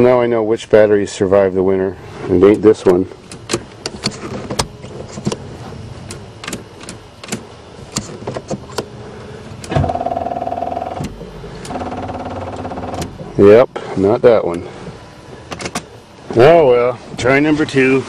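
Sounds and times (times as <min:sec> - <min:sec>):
electrical buzz of ignition: 0:01.5 - 0:18.0.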